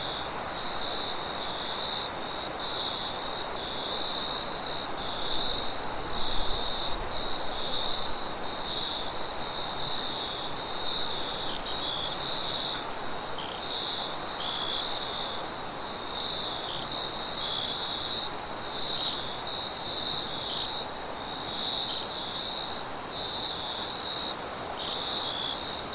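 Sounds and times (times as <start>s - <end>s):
crickets chirping: 0.0s - 25.9s.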